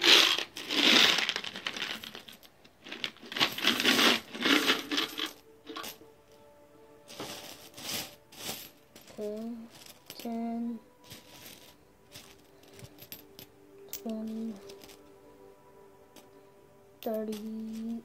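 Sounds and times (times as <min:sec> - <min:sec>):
coins jingling and rattling: 0:00.0 - 0:06.1, 0:07.1 - 0:15.1, 0:17.0 - 0:18.0.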